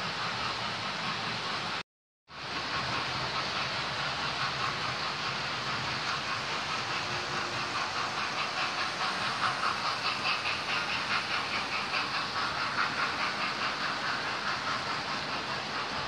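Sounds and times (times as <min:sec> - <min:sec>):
wheels clicking on track: 0:00.0 - 0:01.8, 0:02.4 - 0:16.0
model train whirring: 0:00.0 - 0:16.0.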